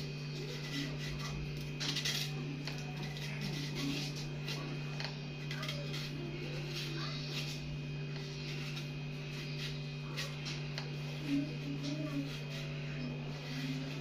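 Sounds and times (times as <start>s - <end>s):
knife scraping bananas: 0.0s - 14.0s
steady low hum: 0.0s - 14.0s.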